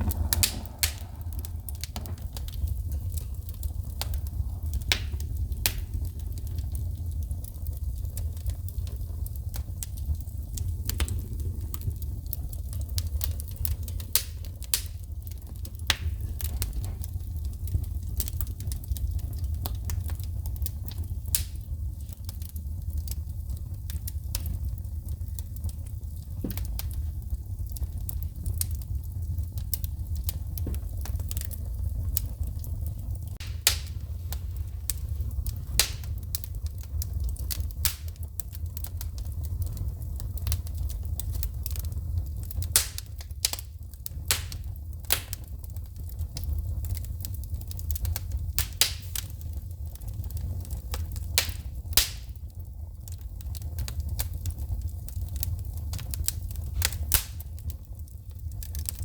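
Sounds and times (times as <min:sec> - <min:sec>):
low fire rumble: 0:00.0 - 0:59.0
sparks snapping and popping: 0:00.0 - 0:59.0
wood fire crackling: 0:00.0 - 0:59.0.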